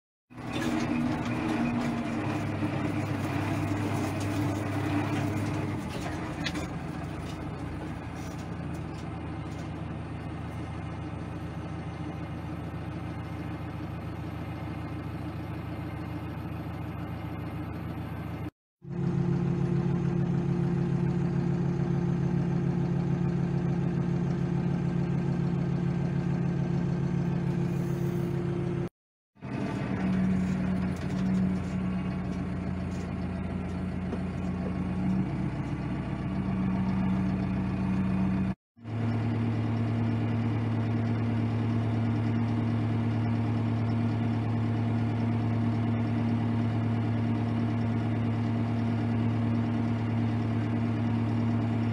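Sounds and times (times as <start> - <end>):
tractor diesel engine running: 0.3 - 51.9.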